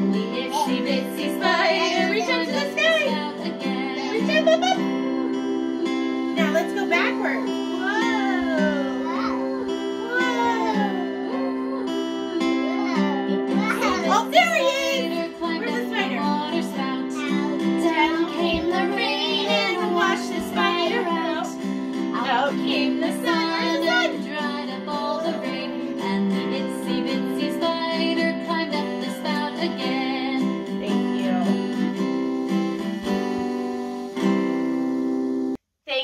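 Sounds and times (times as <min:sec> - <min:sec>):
children's song singing: 0:00.0 - 0:34.4
acoustic guitar: 0:00.0 - 0:35.6.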